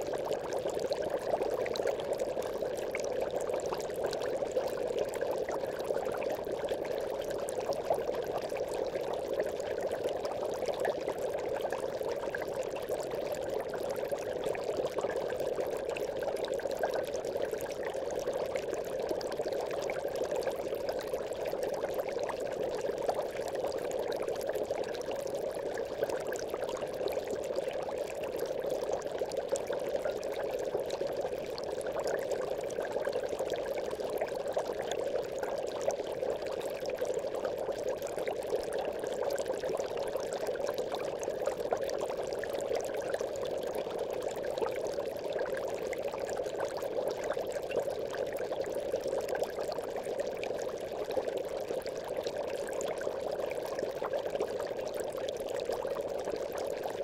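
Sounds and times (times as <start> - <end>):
aquarium bubbles bubbling: 0.0 - 57.0.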